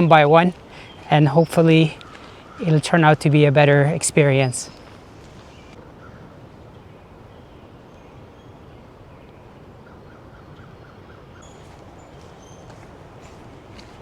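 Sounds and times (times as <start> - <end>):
low outdoor background hum: 0.0 - 14.0
wild birds chirping: 0.0 - 14.0.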